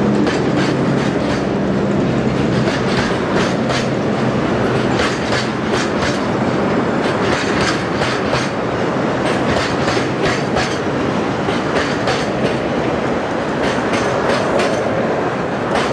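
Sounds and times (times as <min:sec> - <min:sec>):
freight train wheels on rails: 0:00.0 - 0:15.9
wheels clicking over rail joints: 0:00.0 - 0:15.9.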